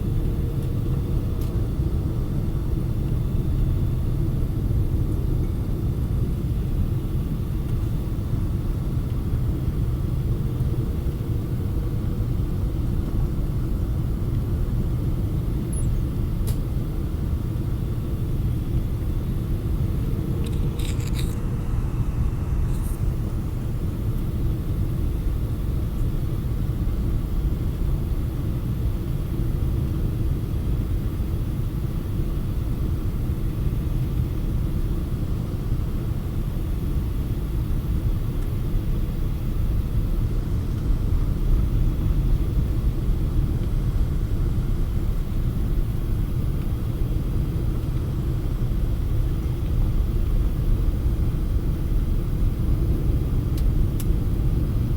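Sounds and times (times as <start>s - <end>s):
airliner engine and airflow rumble: 0.0s - 54.9s.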